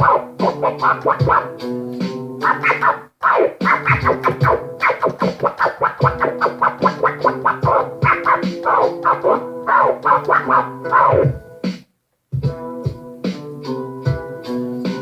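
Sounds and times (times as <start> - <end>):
music with fast scratching strokes: 0.0 - 15.0.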